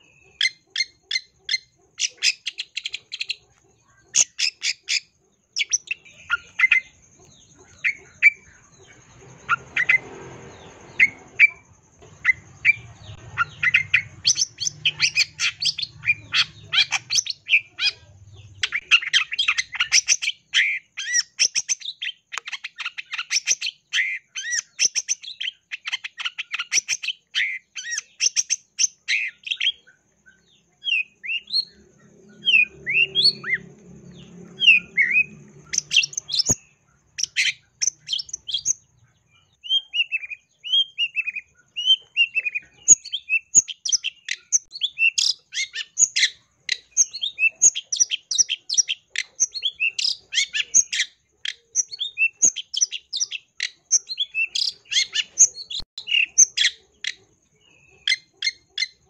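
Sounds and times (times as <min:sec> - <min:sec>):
shrike singing: 0:00.0 - 0:59.0.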